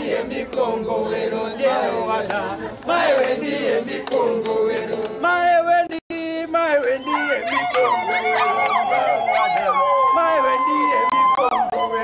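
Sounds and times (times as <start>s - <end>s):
group singing and chanting: 0.0s - 12.0s.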